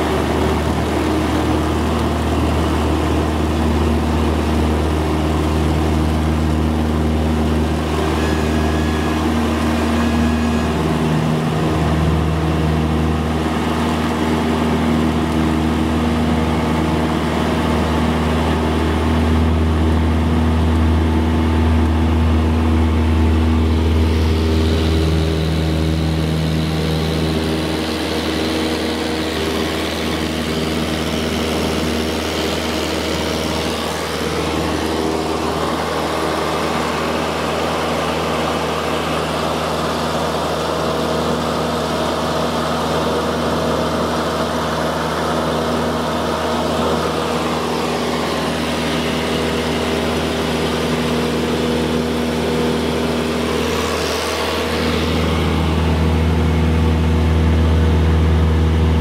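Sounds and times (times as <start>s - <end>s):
airplane engine drone: 0.0s - 59.0s.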